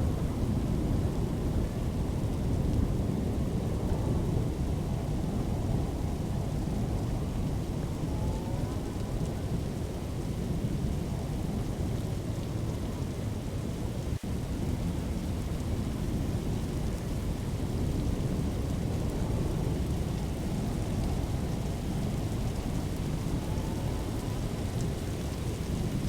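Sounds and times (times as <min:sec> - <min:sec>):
heavy rain: 0:00.0 - 0:26.0
wind: 0:00.0 - 0:26.0.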